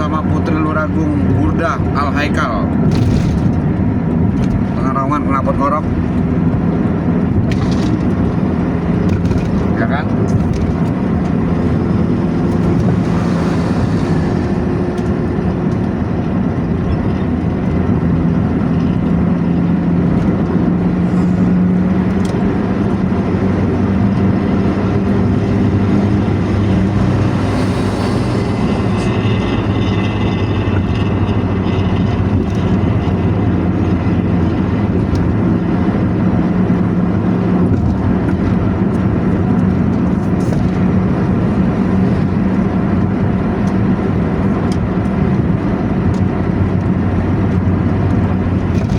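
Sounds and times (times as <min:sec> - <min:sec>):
bus diesel engine drone: 0:00.0 - 0:48.9
road noise: 0:00.0 - 0:48.9.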